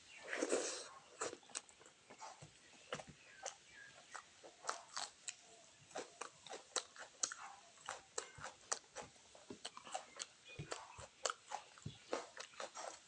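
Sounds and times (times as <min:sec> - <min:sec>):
chewing with wet mouth clicks: 0:00.5 - 0:13.0.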